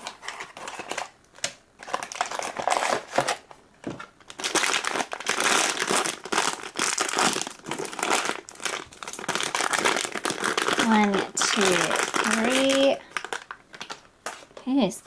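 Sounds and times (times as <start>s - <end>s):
foil wrapper crinkling: 0.0s - 14.7s.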